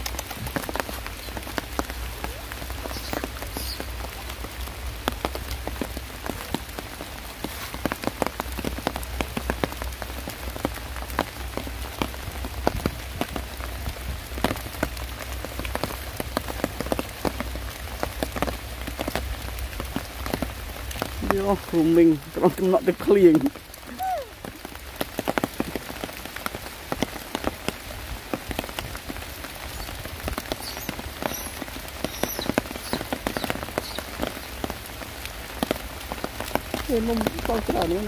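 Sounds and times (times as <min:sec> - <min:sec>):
rain hissing: 0:00.0 - 0:38.0
raindrops hitting umbrella fabric: 0:00.0 - 0:38.0.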